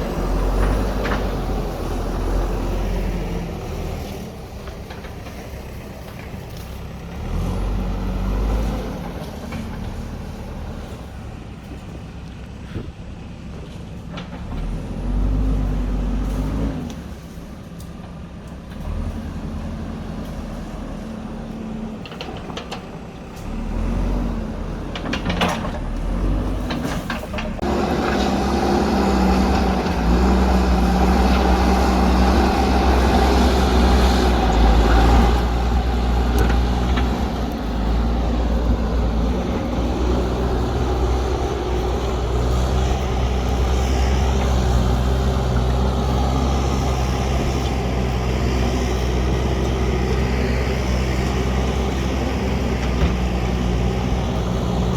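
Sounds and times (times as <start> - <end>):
diesel engine revving: 0.0 - 12.0, 14.3 - 17.8, 18.4 - 54.9.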